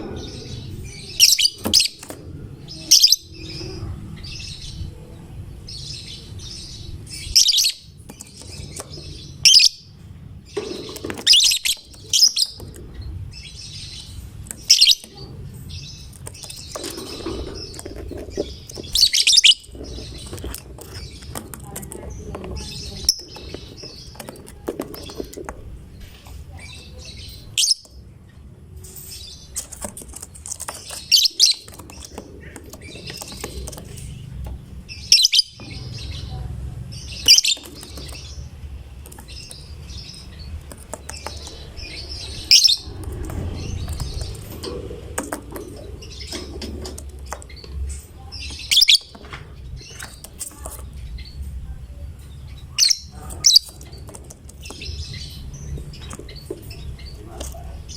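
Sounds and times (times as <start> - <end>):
lovebird chattering: 0.0 - 4.7, 10.5 - 28.0, 28.9 - 36.4, 37.0 - 49.2, 52.4 - 57.9.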